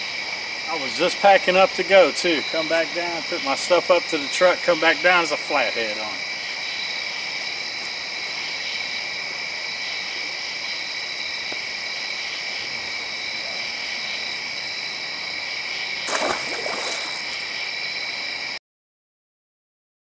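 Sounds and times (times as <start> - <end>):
insect chorus drone: 0.0 - 18.6.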